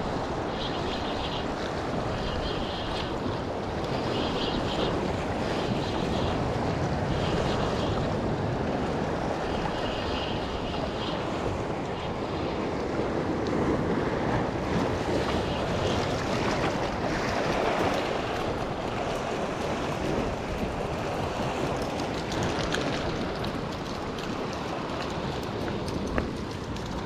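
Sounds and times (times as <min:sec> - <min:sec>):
wind buffeting microphone: 0:00.0 - 0:27.0
waves washing against rocks: 0:00.1 - 0:27.0.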